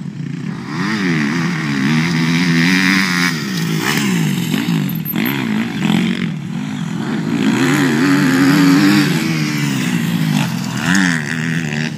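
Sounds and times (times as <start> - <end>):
motocross bike engine revving: 0.0 - 11.9.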